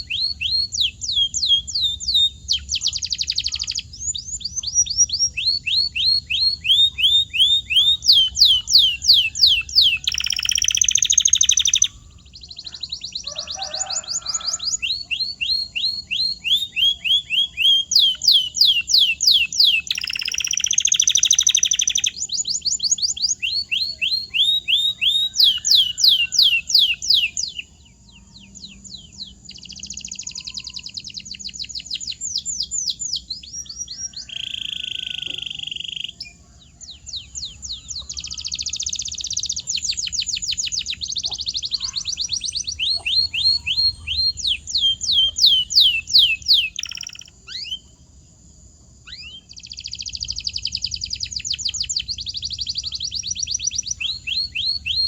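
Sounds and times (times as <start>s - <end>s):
canary singing: 0.0s - 48.2s, 49.0s - 55.0s.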